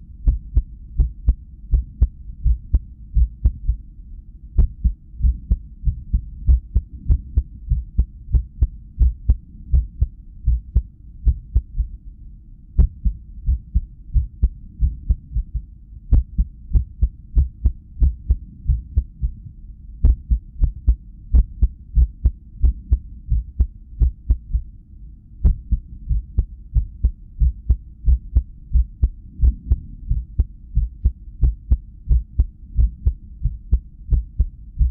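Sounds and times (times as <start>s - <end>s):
whooshing heartbeat pulses: 0.2s - 3.8s, 4.6s - 11.9s, 12.8s - 24.7s, 25.4s - 34.9s.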